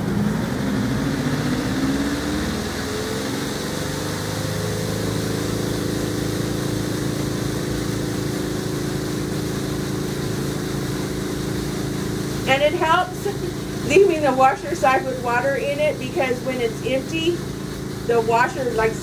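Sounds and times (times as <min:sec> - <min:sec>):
spin-dryer motor whine: 0:00.0 - 0:19.0.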